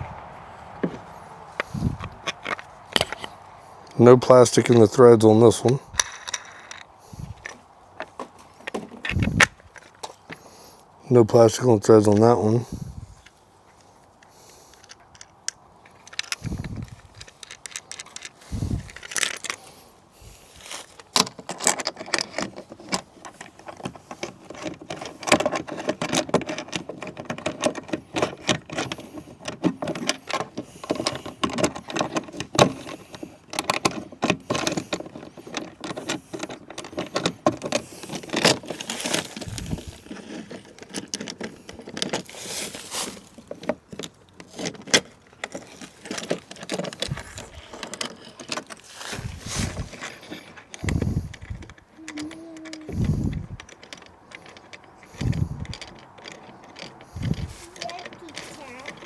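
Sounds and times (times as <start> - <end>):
metal hardware clinking: 1.6 - 3.4, 4.4 - 10.4, 14.7 - 59.0.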